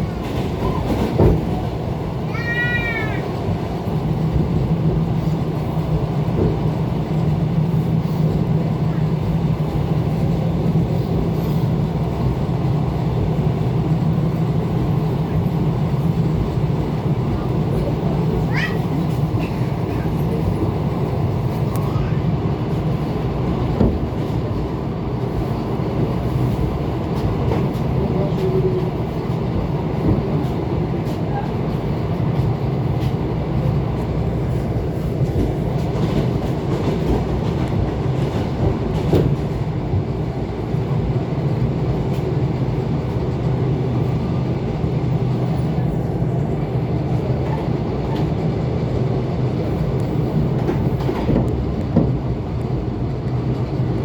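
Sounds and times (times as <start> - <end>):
electric train rumble and hum: 0.0 - 54.0.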